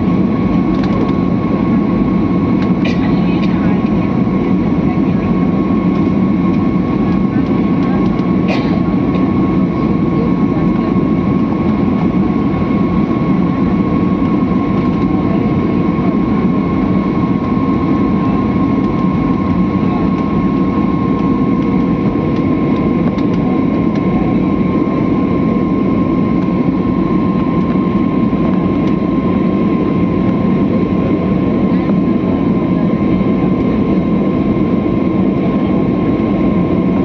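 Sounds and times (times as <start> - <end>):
airliner cabin drone: 0.0 - 37.0.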